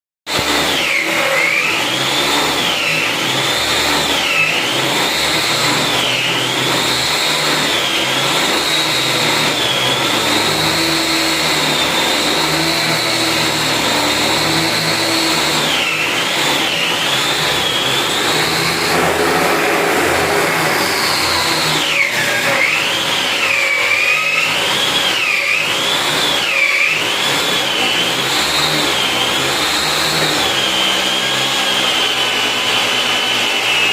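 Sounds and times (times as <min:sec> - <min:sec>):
electric motor whining: 0:00.3 - 0:33.9.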